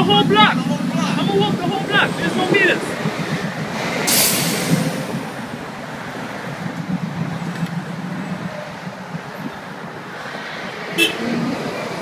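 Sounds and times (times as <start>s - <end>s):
cars driving past: 0.0s - 12.0s
loud rush of noise: 0.0s - 12.0s
low engine hum: 0.0s - 12.0s.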